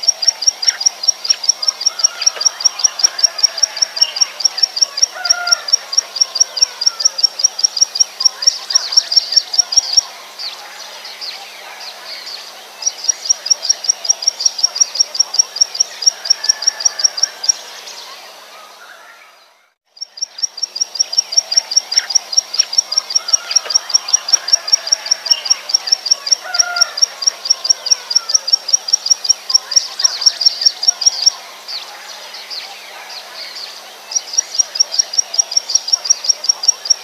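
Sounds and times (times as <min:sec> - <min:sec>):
faint background birds: 0:00.0 - 0:37.0
faint insects: 0:00.0 - 0:37.0.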